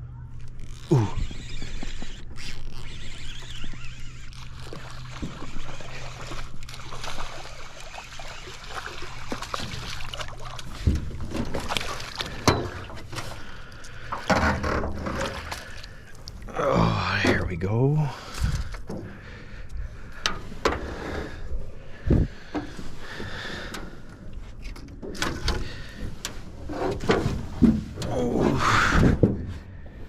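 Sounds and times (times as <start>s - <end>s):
water lapping and trickling: 0.3s - 30.0s.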